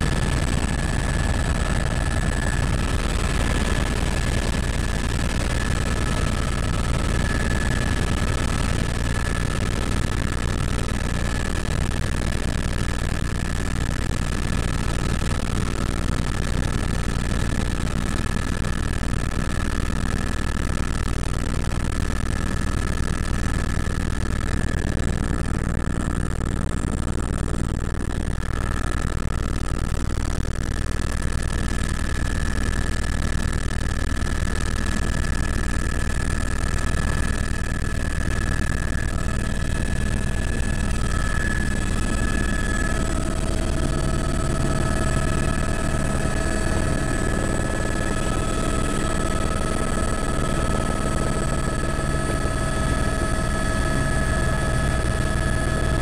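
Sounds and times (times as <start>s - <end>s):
high whine: 0.0s - 19.8s, 30.3s - 56.0s
helicopter rotor and engine rumble: 0.0s - 29.6s, 30.8s - 56.0s.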